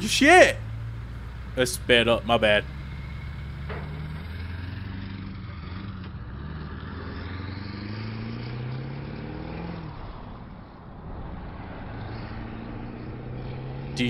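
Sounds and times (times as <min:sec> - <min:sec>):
diesel truck engine accelerating: 0:00.0 - 0:14.0.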